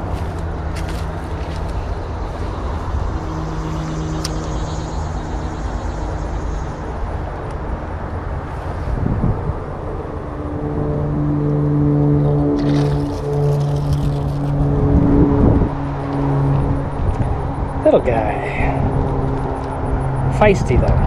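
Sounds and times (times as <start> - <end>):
highway traffic drone: 0.0 - 21.0
vehicle passing: 0.0 - 21.0.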